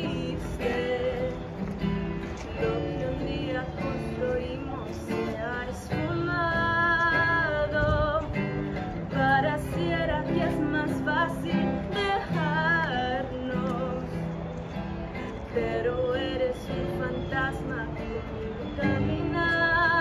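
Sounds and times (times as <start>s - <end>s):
woman singing: 0.0s - 14.4s, 15.2s - 20.0s
acoustic guitar: 0.0s - 20.0s.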